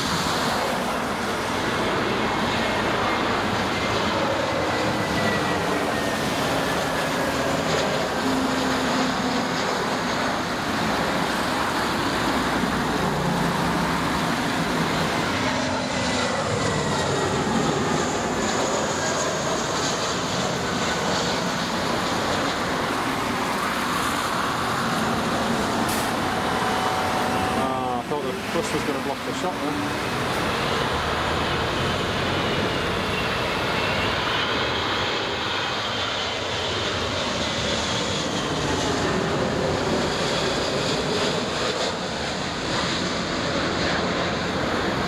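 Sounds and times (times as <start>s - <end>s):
jet engines running: 0.0s - 45.0s.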